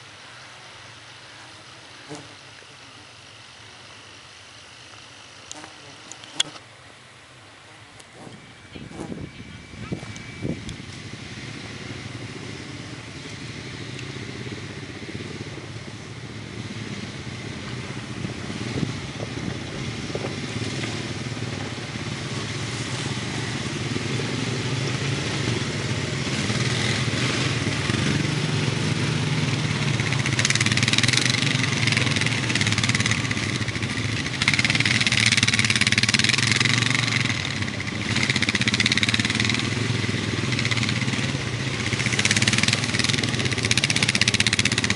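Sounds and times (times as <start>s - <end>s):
atv engines running: 0.0s - 44.9s.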